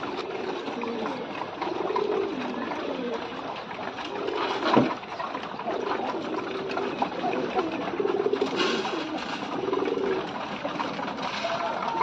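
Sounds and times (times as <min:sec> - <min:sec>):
beaks pecking grain: 0:00.0 - 0:12.0
pigeons cooing: 0:00.0 - 0:12.0.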